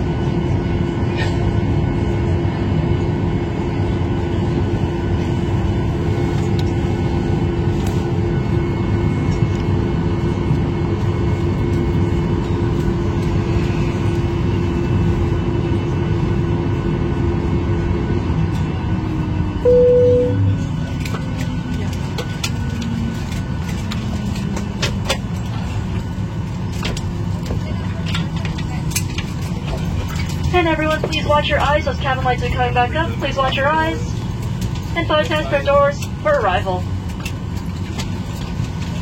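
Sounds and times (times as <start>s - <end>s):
airliner engine hum: 0.0s - 39.0s.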